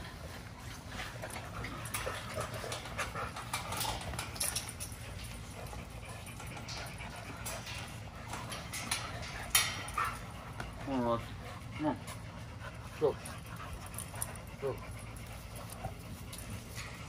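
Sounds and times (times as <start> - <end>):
wire kennel panels rattling: 0.8 - 11.3, 12.6 - 17.0.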